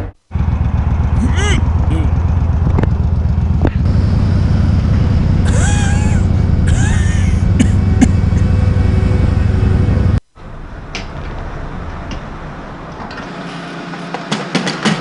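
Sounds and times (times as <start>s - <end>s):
motorcycle engine rumble: 0.0s - 13.8s.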